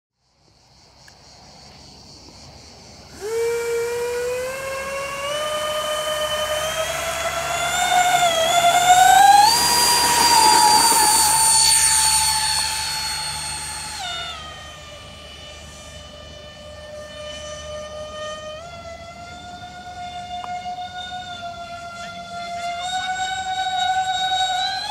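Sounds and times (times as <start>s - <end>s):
model jet fans whining: 1.1s - 24.9s.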